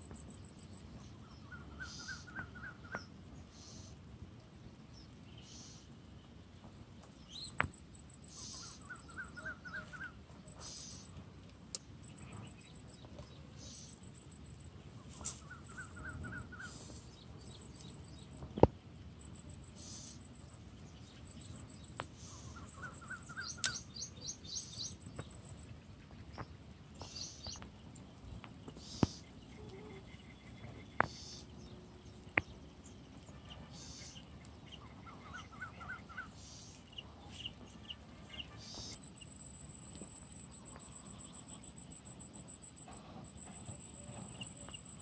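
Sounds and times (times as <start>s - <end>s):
birds singing: 0.0s - 4.0s, 4.8s - 45.0s.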